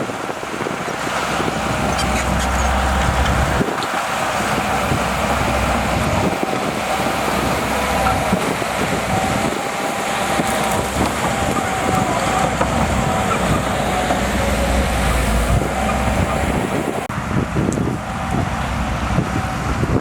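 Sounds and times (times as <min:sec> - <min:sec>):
bulldozer diesel engine whine: 0:00.0 - 0:20.0
bulldozer tracks clanking: 0:00.0 - 0:20.0.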